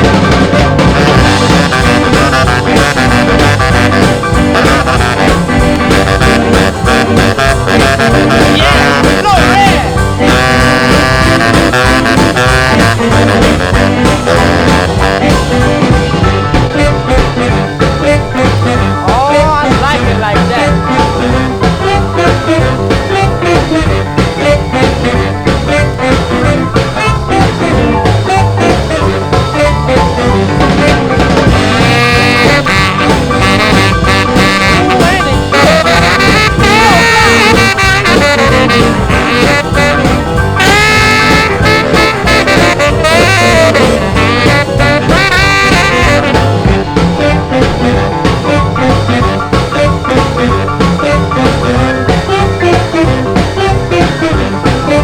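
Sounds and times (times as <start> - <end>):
lead horn line: 0.0 - 55.0
rhythm and blues horns: 0.0 - 55.0
steady beat: 0.0 - 55.0.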